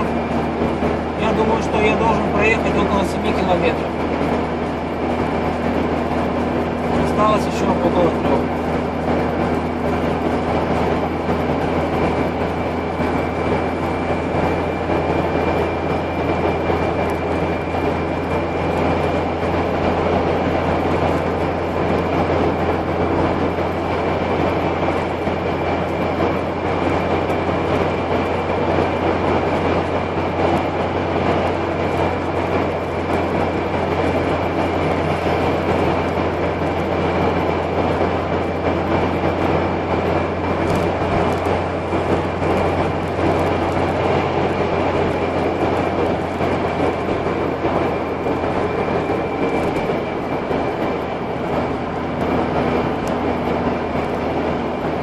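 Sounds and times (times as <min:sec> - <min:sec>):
low engine drone: 0:00.0 - 0:55.0
tyre and road roar: 0:00.0 - 0:55.0.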